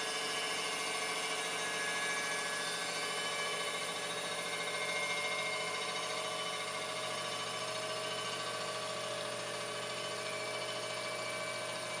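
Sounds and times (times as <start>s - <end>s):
grinding machine whine: 0.0s - 12.0s.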